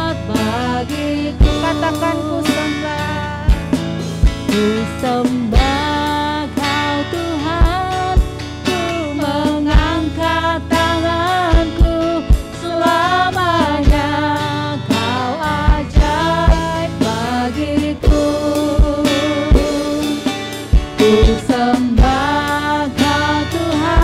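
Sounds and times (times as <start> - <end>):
worship song with band: 0.0 - 24.0.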